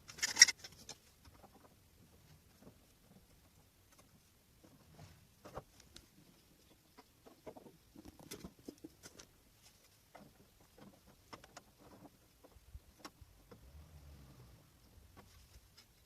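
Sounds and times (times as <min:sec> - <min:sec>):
faint clicks and taps: 0:00.6 - 0:13.7.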